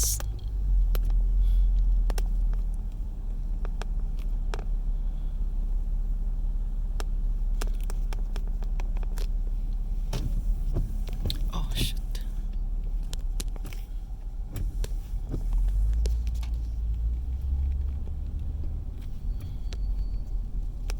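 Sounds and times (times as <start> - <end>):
car cabin rumble: 0.0 - 20.9.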